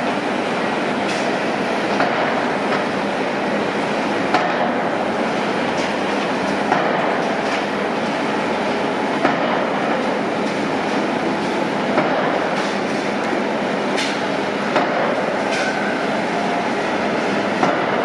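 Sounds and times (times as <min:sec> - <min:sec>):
heavy construction machinery running: 0:00.0 - 0:18.0.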